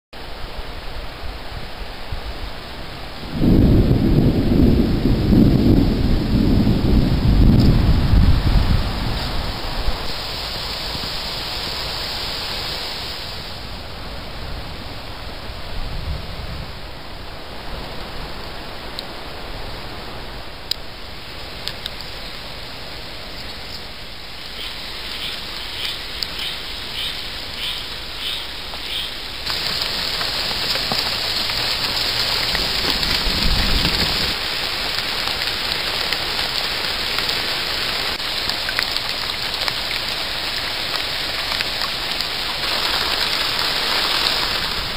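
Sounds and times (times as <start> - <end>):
rain on foliage and puddle: 0.2 - 44.9.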